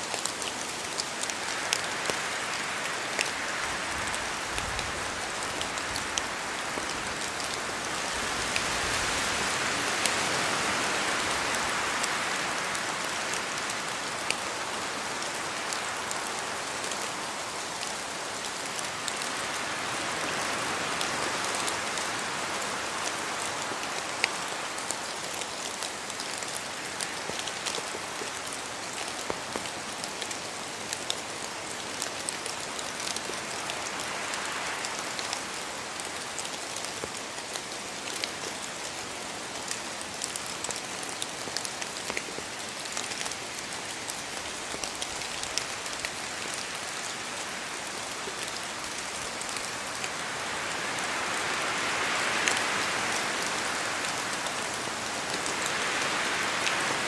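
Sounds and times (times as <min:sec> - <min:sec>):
rain falling on trees: 0:00.0 - 0:57.0
wind: 0:00.0 - 0:57.0.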